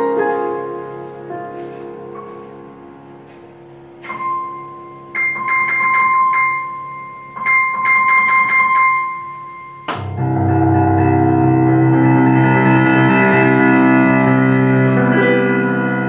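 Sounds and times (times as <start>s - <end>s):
digital piano playing: 0.0s - 16.0s.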